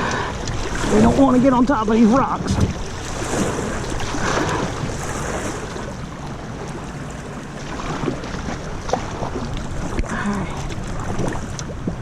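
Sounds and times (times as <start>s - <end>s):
river water rushing and splashing: 0.0s - 12.0s
wind buffeting microphone: 0.0s - 12.0s.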